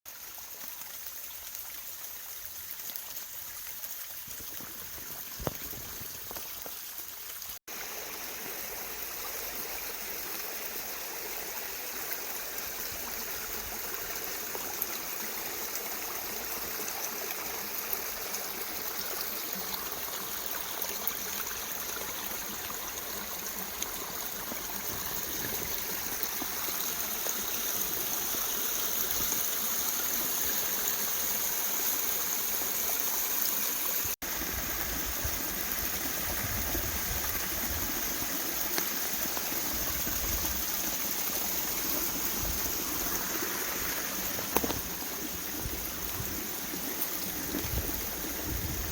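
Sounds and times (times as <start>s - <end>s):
stream trickling: 0.0s - 48.9s.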